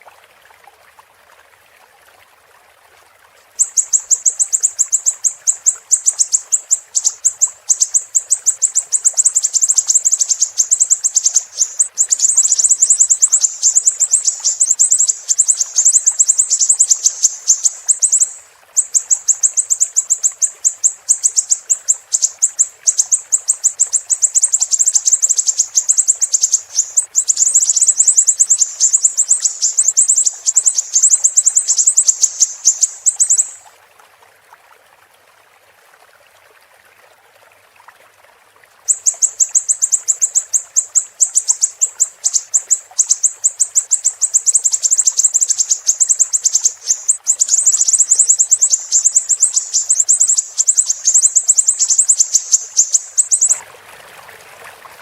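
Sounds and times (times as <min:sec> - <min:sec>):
water trickling: 0:00.0 - 0:55.0
songbird chattering trill: 0:03.6 - 0:33.6, 0:38.9 - 0:53.6.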